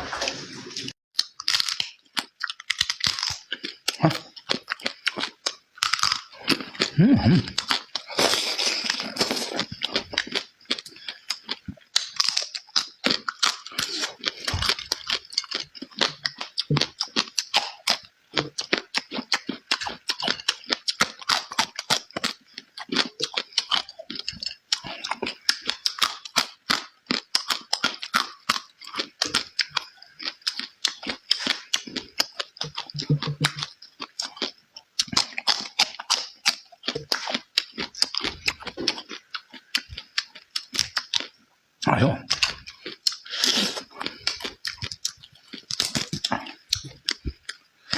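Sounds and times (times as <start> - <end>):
chewing and lip-smacking: 0.8 - 41.4, 42.3 - 47.9.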